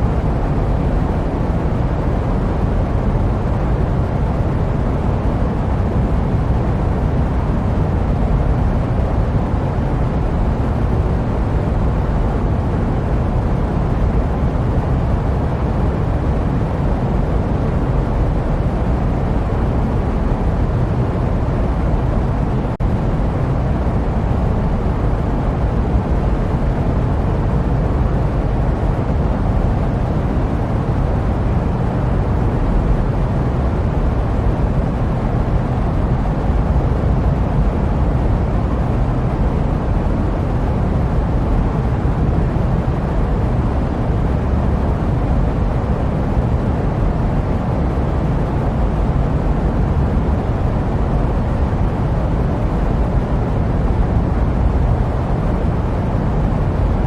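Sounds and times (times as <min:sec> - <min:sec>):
jet aircraft rumble: 0:00.0 - 0:57.0.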